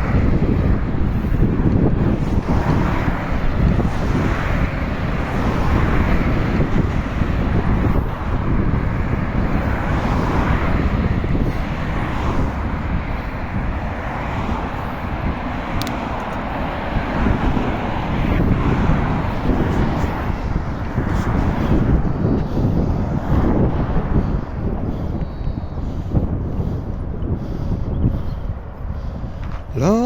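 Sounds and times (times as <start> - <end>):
traffic: 0.0 - 30.0
wind rumble on microphone: 0.0 - 30.0.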